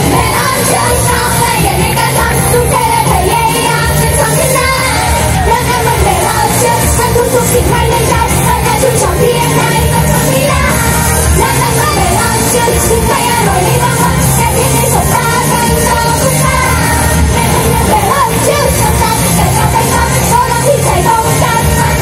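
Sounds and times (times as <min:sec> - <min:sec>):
girl group singing pop song: 0:00.0 - 0:22.0.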